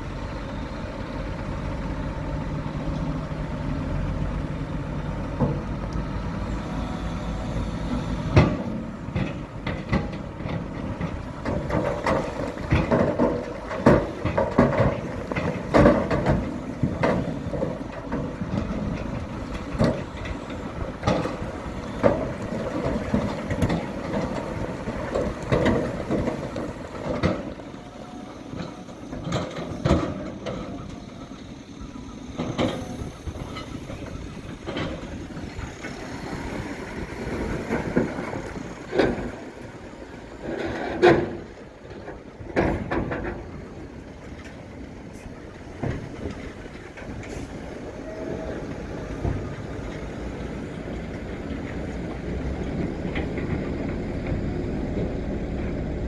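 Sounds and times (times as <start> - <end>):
diesel engine of earthmoving machine: 0.0 - 56.0.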